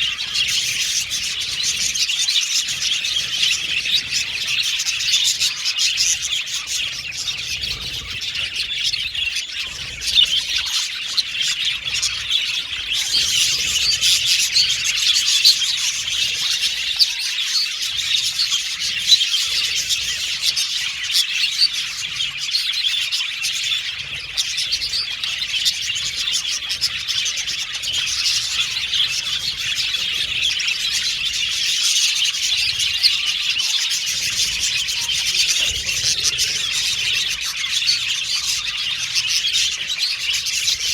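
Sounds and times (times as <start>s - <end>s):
budgerigars chirping and warbling: 0.0s - 40.9s.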